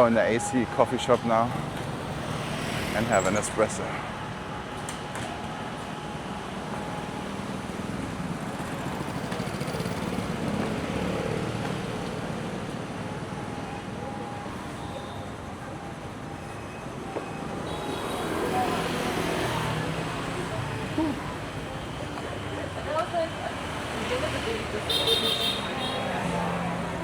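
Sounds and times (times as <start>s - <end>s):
passing vehicles: 0.0s - 27.0s.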